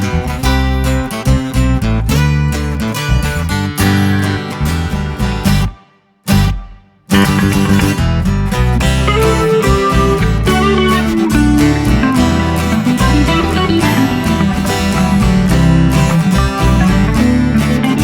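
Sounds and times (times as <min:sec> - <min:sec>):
guitar music with steady beat: 0:00.0 - 0:18.0.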